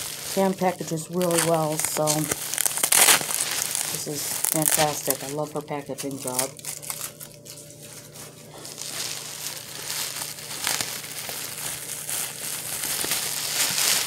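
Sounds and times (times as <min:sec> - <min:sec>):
packing material crinkling: 0:00.0 - 0:14.0.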